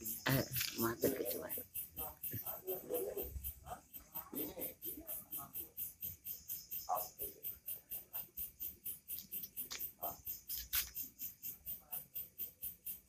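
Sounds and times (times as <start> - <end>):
cricket chirping: 0.0 - 13.0
faint murmuring voices: 0.0 - 13.0.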